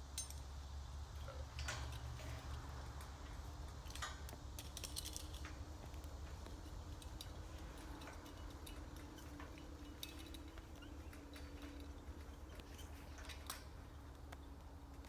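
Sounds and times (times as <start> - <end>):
climbing gear clicking on steel: 1.2 - 14.7.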